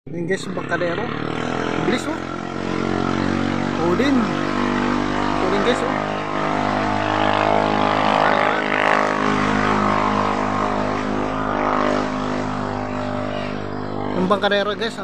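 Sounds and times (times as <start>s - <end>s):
vehicle engine running: 0.2s - 15.0s.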